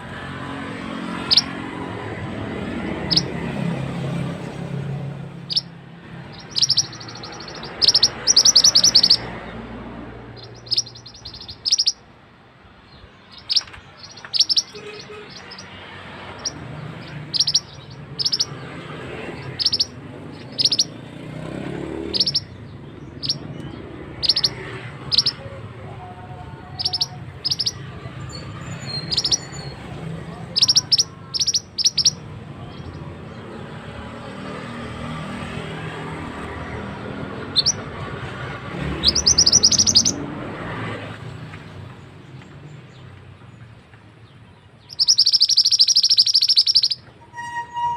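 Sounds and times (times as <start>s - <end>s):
songbird singing rapid high notes: 0.8s - 12.2s, 12.9s - 40.4s, 44.2s - 47.9s.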